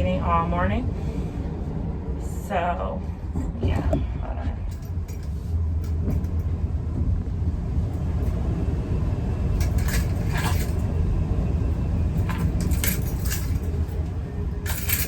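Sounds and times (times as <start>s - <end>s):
utility cart rumbling: 0.0s - 15.0s.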